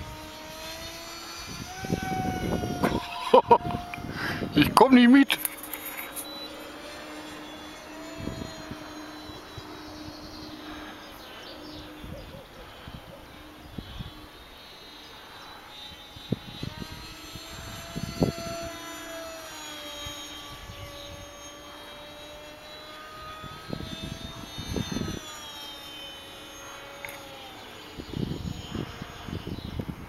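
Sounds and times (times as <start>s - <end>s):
model plane propeller whining: 0.0s - 30.0s.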